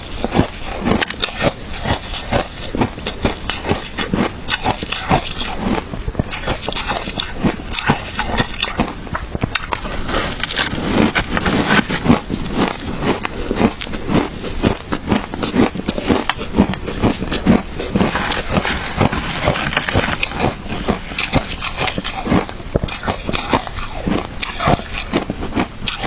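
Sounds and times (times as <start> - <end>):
shaved ice being chewed: 0.0 - 26.0.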